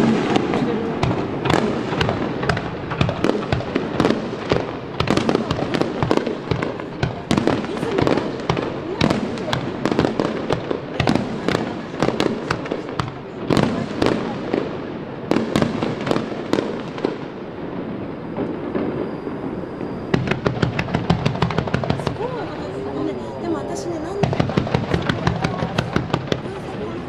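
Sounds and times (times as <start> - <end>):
firework bangs and crackling: 0.0 - 27.0.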